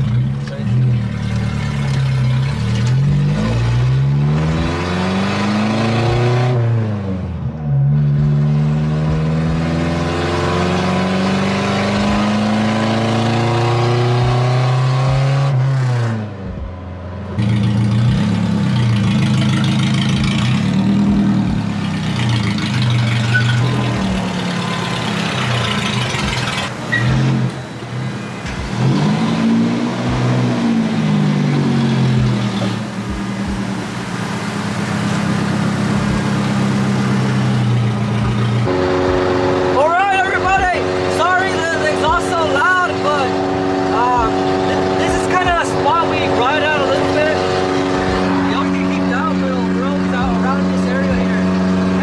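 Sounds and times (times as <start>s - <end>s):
truck engine accelerating: 0.0s - 52.0s.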